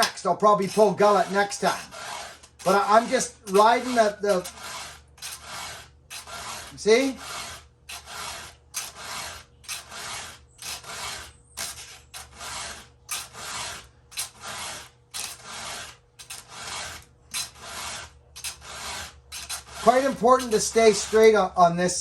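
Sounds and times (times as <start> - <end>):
hand file rasping on chain: 0.0 - 21.6.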